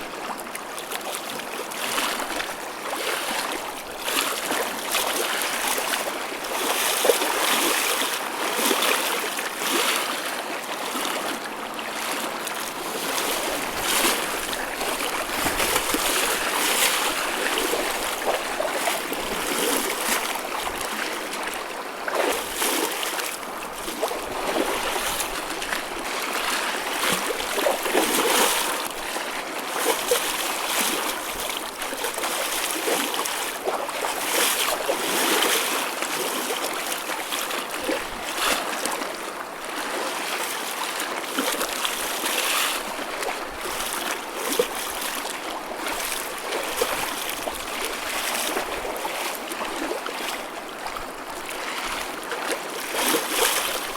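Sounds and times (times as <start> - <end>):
choppy ocean waves: 0.0 - 53.9.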